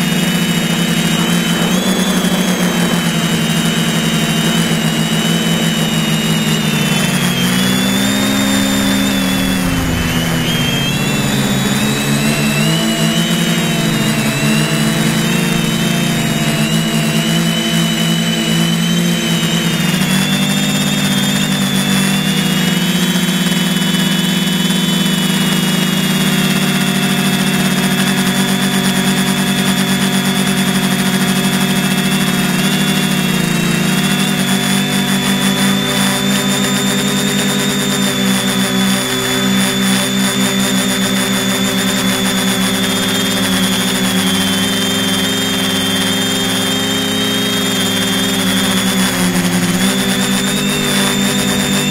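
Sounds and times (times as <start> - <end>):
drone motors buzzing whine: 0.0 - 51.9.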